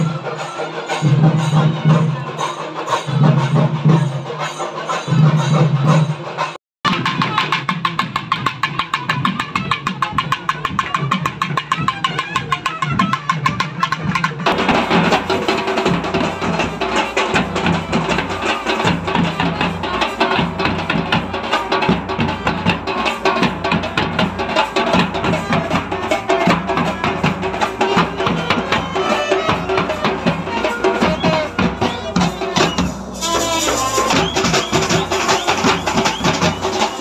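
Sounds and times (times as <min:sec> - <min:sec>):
drum band playing fast rhythm: 0:00.0 - 0:37.0.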